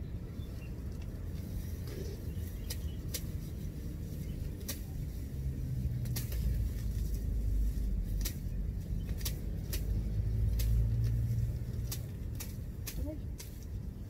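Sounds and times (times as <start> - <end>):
steady low rumble: 0.0 - 14.0
grass stems snapping: 1.8 - 13.9.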